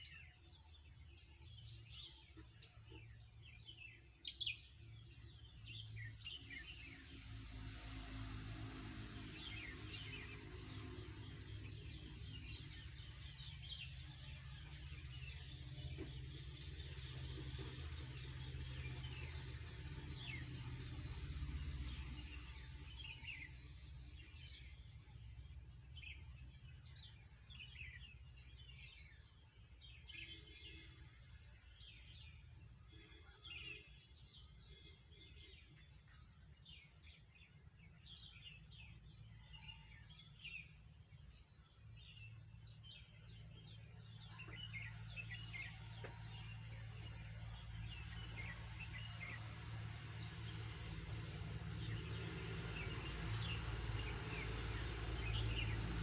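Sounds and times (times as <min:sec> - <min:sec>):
low steady rumble: 0:00.0 - 0:56.0
small birds chirping: 0:00.0 - 0:56.0.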